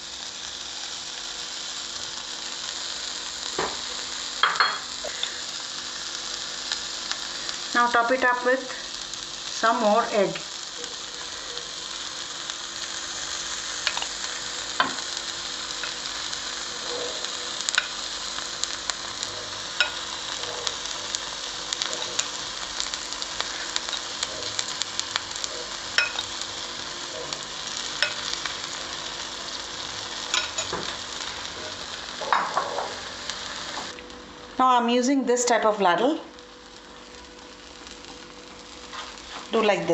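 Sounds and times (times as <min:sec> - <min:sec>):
egg sizzling in oil: 0:00.0 - 0:34.6, 0:35.4 - 0:39.9.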